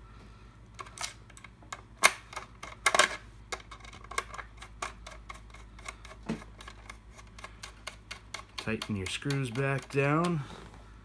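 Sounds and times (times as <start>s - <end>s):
metal and plastic clicks: 0.8s - 10.4s.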